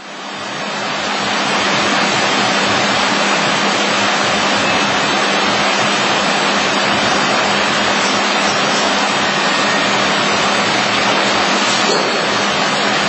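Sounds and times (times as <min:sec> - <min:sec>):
router machine rushing noise: 0:00.8 - 0:13.0.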